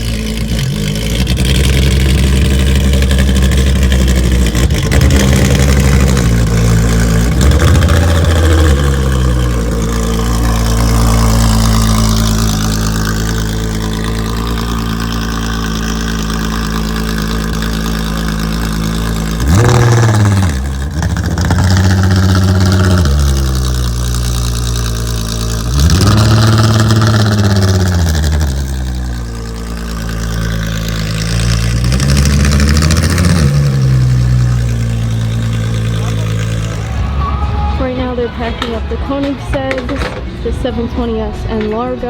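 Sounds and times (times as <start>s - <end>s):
supercar engine idling and revving: 0.0s - 42.0s.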